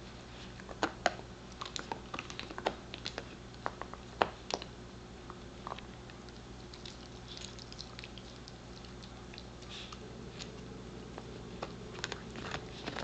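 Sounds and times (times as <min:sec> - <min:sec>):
dog gnawing antler: 0:00.5 - 0:04.7, 0:05.5 - 0:13.0.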